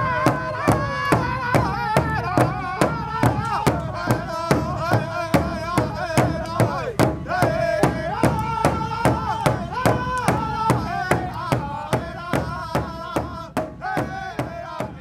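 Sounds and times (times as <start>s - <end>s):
steady drumbeat: 0.0s - 15.0s
voices singing: 0.0s - 15.0s.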